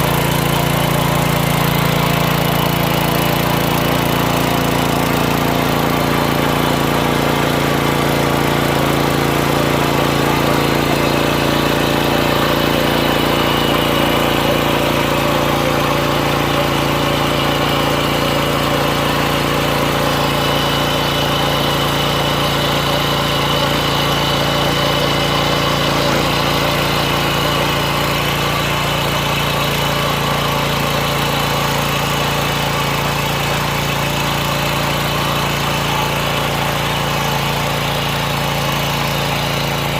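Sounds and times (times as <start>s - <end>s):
tiller engine running: 0.0s - 39.9s.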